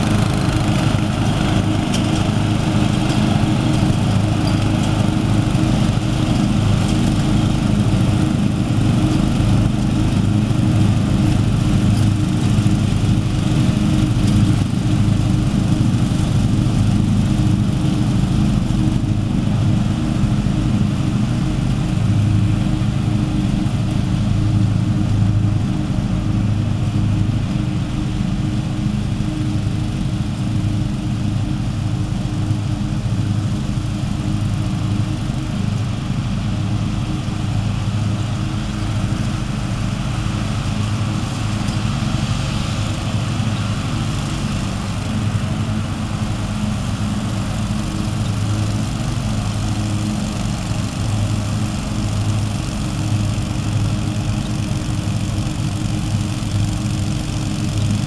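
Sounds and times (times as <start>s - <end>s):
lawn mower engine droning: 0.0s - 58.0s.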